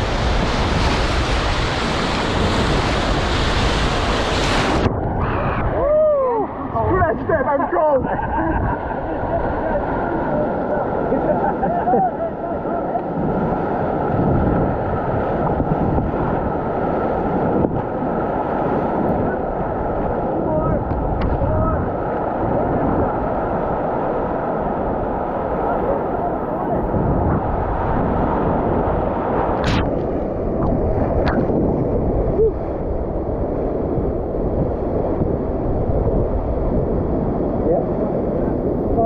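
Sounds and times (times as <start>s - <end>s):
whitewater rushing: 0.0s - 8.0s, 8.6s - 33.8s
wind noise on microphone: 0.0s - 39.0s.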